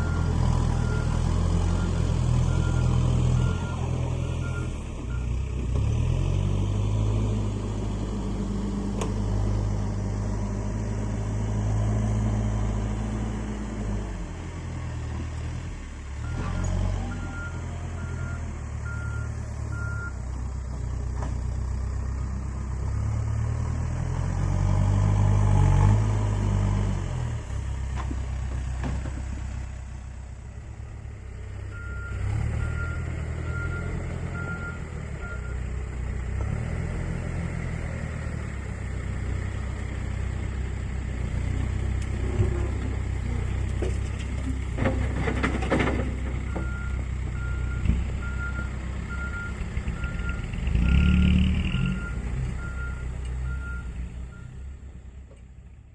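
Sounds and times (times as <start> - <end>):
diesel engine revving: 0.0 - 54.9.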